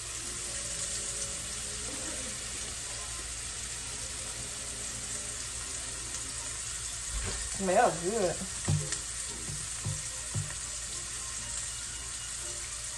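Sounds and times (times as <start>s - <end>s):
meat sizzling in a pan: 0.0s - 12.9s.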